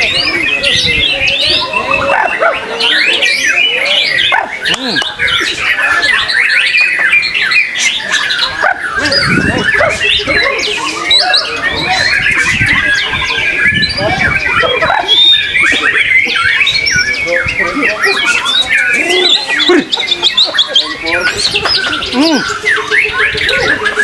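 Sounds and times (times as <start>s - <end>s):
crowd murmuring: 0.0s - 24.0s
songbirds singing: 0.0s - 24.0s.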